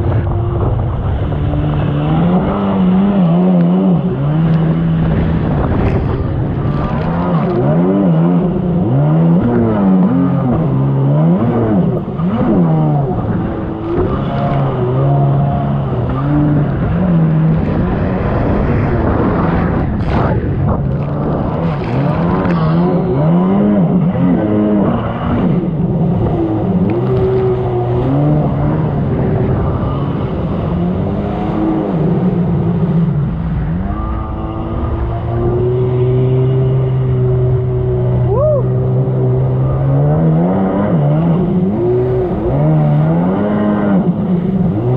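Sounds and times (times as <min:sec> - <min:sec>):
personal watercraft engine revving: 0:00.0 - 0:44.9.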